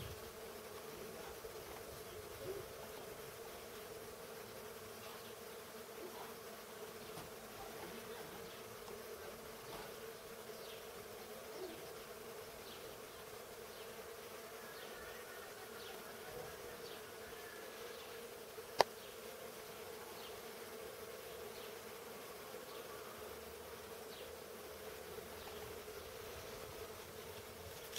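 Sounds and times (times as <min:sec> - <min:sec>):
bees buzzing: 0:00.0 - 0:27.9.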